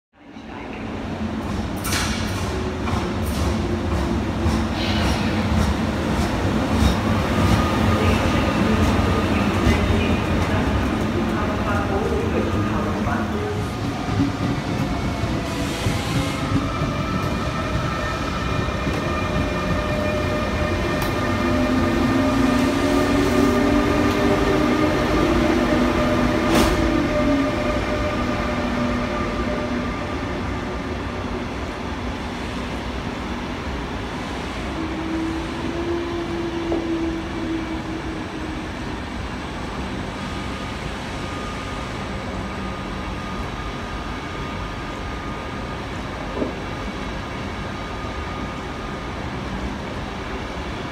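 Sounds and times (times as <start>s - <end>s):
train wheels rumbling on rails: 1.2s - 43.4s
electric locomotive whine: 6.4s - 50.9s.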